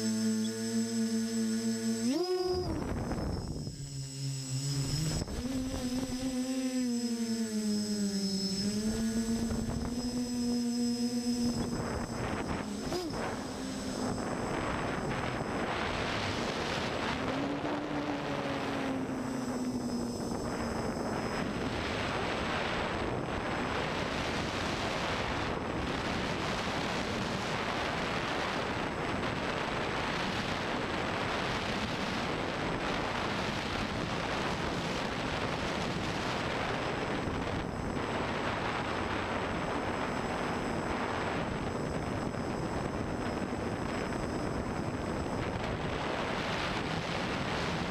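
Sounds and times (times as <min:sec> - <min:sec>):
drone motors and propellers rushing: 0:00.0 - 0:47.9
wind over microphone: 0:00.0 - 0:47.9.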